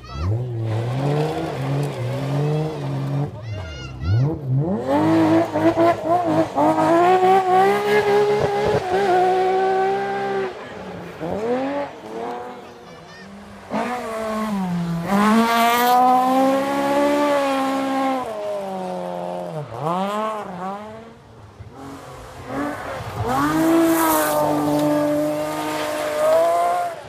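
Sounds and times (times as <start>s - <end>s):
rally car engines revving high: 0.0s - 27.0s.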